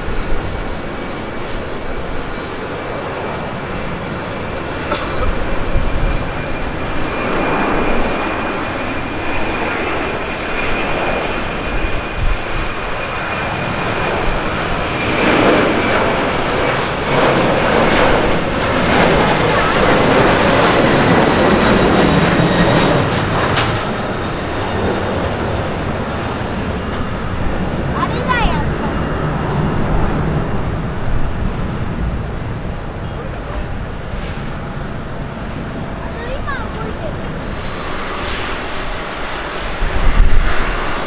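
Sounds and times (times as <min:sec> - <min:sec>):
jet engine rushing noise: 0:00.0 - 0:41.0
thin high engine whine: 0:00.0 - 0:41.0.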